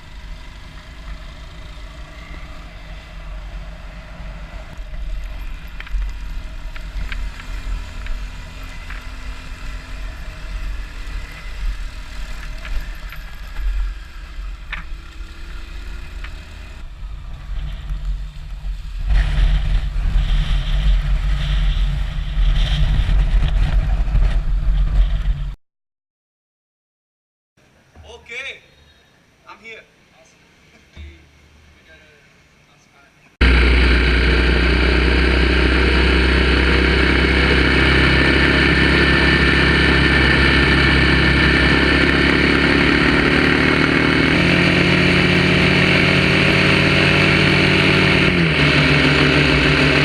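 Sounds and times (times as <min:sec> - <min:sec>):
motorcycle engine rumbling: 0:00.0 - 0:25.6, 0:33.4 - 0:50.0.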